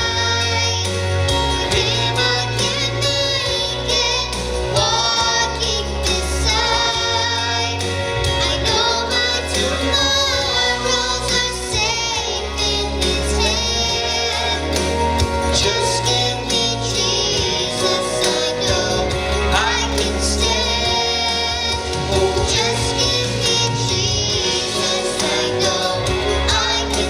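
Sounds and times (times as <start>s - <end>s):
gospel singing with vibrato: 0.0s - 27.0s
instrumental accompaniment with bass: 0.0s - 27.0s.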